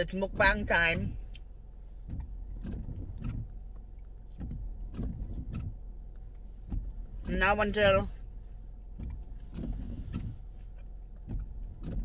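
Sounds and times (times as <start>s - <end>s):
low hum inside car: 0.0s - 12.0s.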